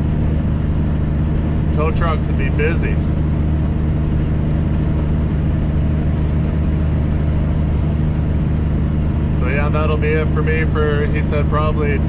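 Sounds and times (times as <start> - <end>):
diesel truck engine droning: 0.0 - 12.0
road and wind noise: 0.0 - 12.0.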